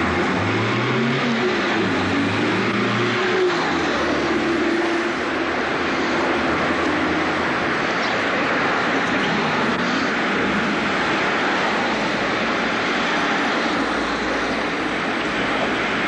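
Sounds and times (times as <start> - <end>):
cars passing close rumbling: 0.0 - 16.0
cars rushing on road: 0.0 - 16.0.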